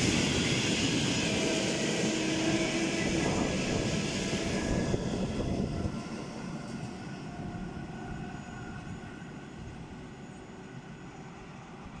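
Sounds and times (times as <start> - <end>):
faint train whine: 0.0 - 12.0
train wheels rumbling on rail: 0.0 - 12.0.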